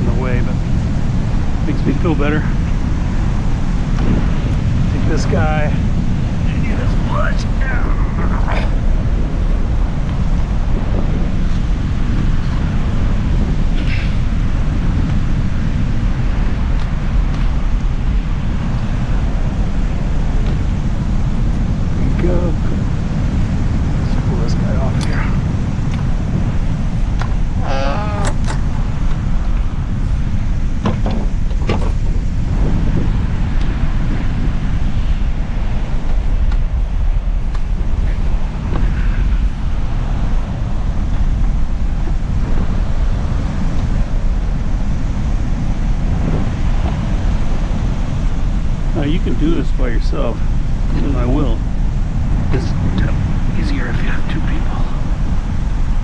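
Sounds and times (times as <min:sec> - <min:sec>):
beach surf: 0:00.0 - 0:56.0
wind buffeting microphone: 0:00.0 - 0:56.0.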